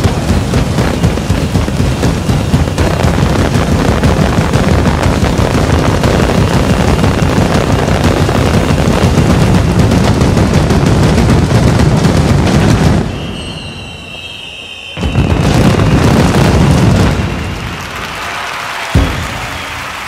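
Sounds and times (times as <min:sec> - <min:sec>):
drum barrage: 0:00.0 - 0:14.1, 0:15.0 - 0:20.0.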